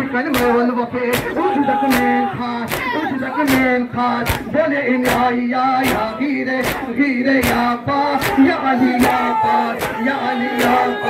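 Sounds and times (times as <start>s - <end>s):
men chanting in unison: 0.0s - 11.0s
rhythmic chest-beating: 0.0s - 11.0s.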